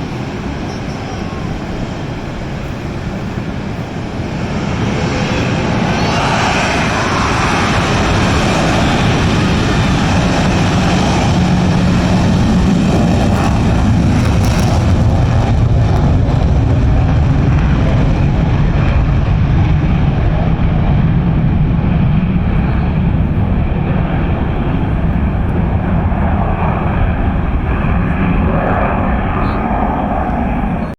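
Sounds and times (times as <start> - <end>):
jet fighters taking off: 0.0 - 30.9.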